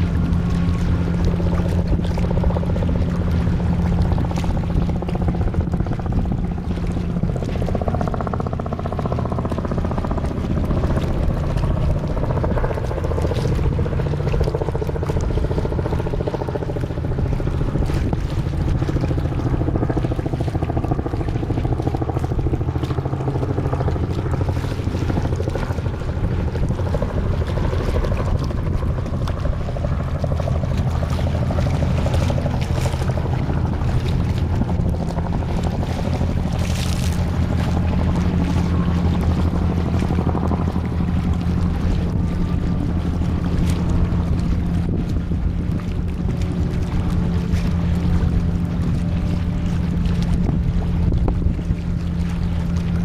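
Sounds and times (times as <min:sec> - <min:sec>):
boat engine droning: 0:00.0 - 0:53.0.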